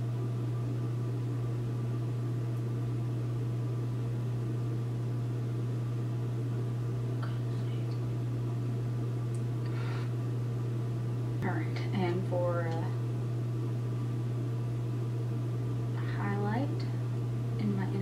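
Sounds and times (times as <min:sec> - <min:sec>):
low hum with hiss: 0:00.0 - 0:18.0.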